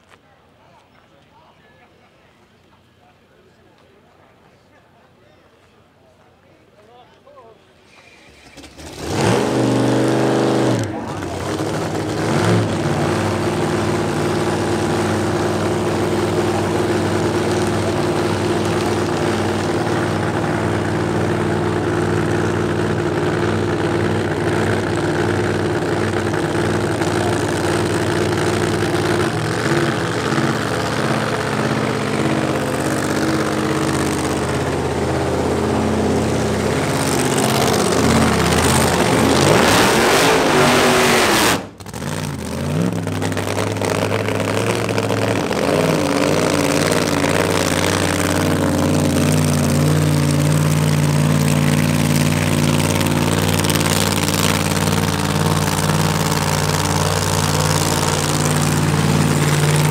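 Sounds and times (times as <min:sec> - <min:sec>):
supercharged car engine idling: 0:08.5 - 0:59.9.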